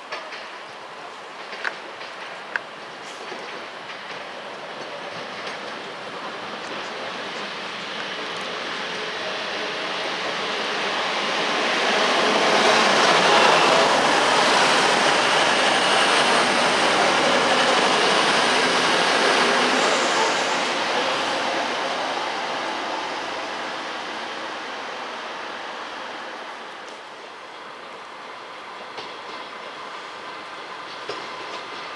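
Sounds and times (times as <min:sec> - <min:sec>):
train passing: 0:00.0 - 0:31.9.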